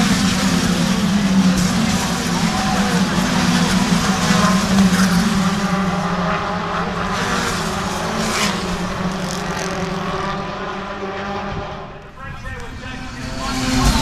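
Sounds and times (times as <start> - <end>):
race cars passing at full throttle: 0.0 - 14.0.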